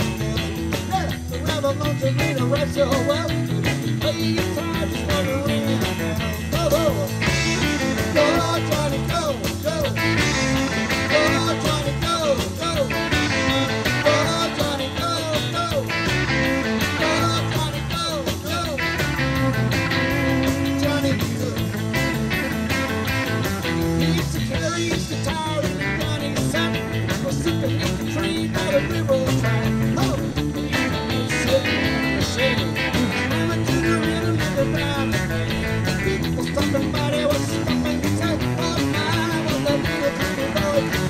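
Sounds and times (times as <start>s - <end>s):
harmonica lead line: 0.0s - 41.0s
live rock band playing: 0.0s - 41.0s.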